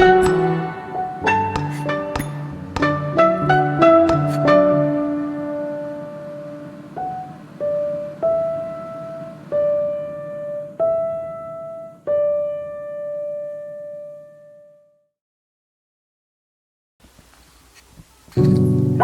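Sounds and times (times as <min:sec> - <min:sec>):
slow piano notes over chord: 0:00.0 - 0:15.0, 0:18.4 - 0:19.0.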